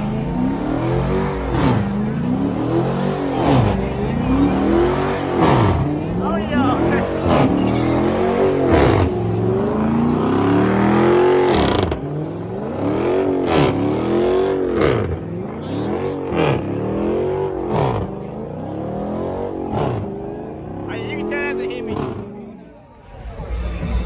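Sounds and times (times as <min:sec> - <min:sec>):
car engine revving hard: 0:00.0 - 0:22.4.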